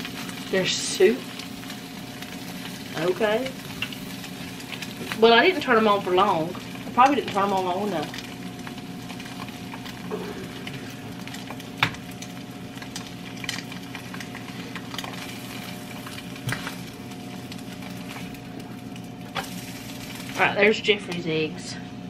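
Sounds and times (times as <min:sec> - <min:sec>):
egg sizzling in a skillet: 0:00.0 - 0:21.5
low hum: 0:00.0 - 0:22.0.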